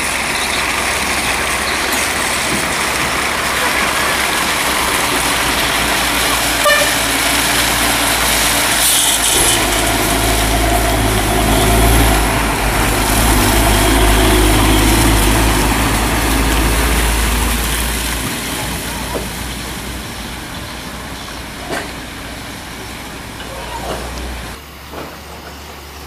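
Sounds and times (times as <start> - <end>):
diesel trucks rumbling past: 0.0 - 26.0.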